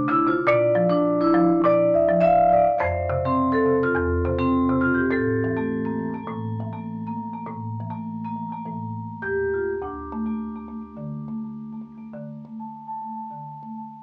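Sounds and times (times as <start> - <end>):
marimba notes: 0.0 - 14.0
vibraphone tones: 0.0 - 14.0.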